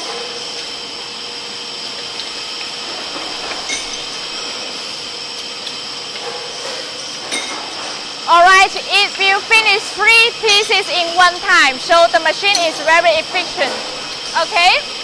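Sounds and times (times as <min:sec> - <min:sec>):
welding machine hissing and whining: 0:00.0 - 0:15.0.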